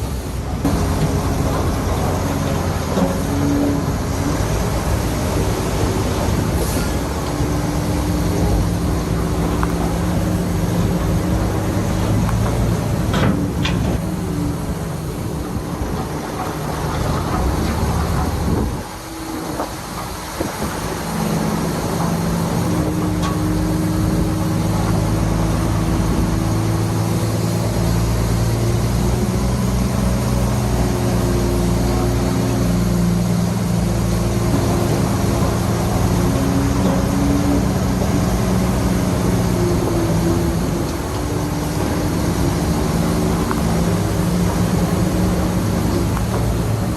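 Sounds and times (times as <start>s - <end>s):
heavy diesel engine working: 0.0s - 46.9s.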